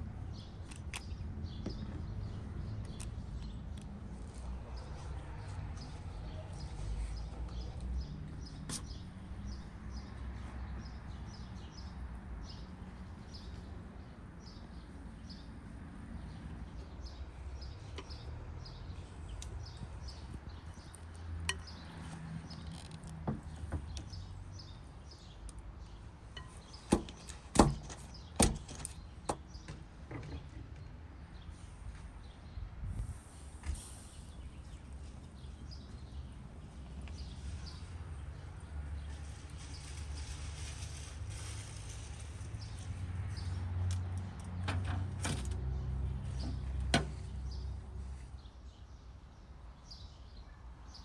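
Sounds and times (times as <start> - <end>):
small birds chirping: 0.2 - 44.7, 45.7 - 51.0.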